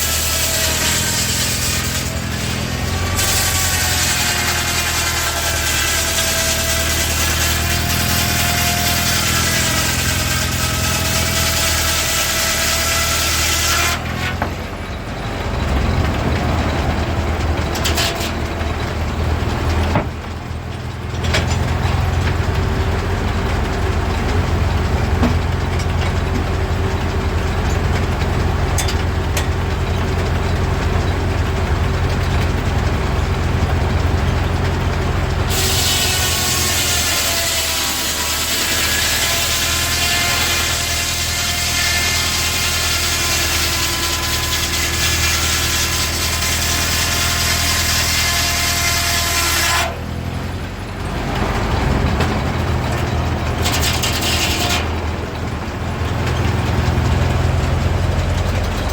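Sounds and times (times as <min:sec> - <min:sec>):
engine rumble: 0:00.0 - 0:58.9.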